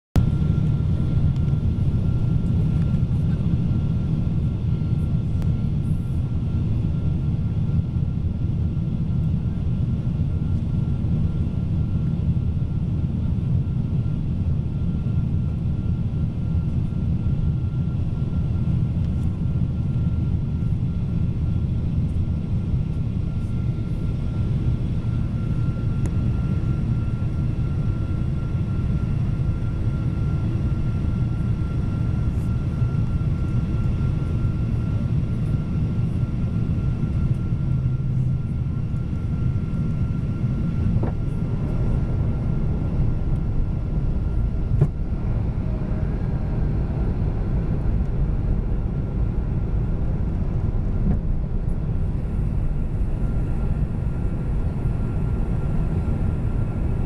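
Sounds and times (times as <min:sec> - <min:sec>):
aircraft engine rumble and rushing air: 0:00.2 - 0:57.0.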